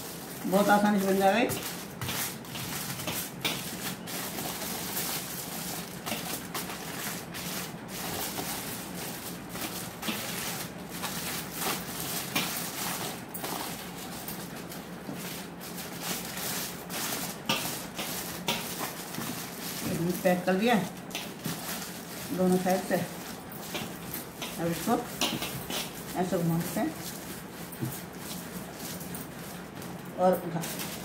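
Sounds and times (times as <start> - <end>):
aluminium foil crinkling: 0.0 - 31.0.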